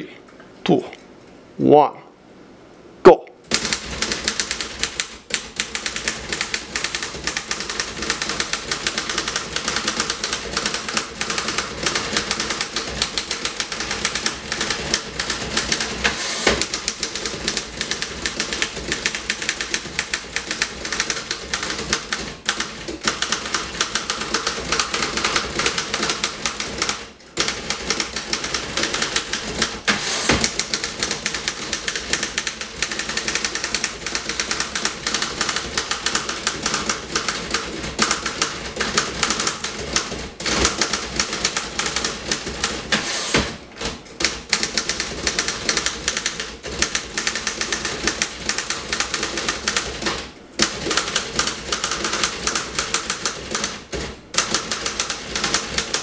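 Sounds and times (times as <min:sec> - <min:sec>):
typewriter keys clattering: 0:03.5 - 0:43.0, 0:43.8 - 0:56.0.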